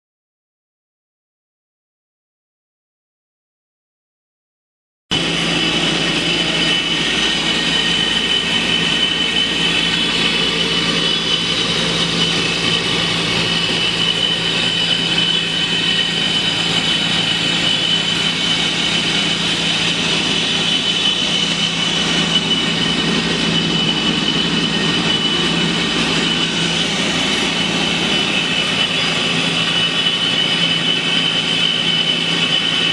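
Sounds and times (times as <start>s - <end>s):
sanding machine running: 5.1s - 32.9s.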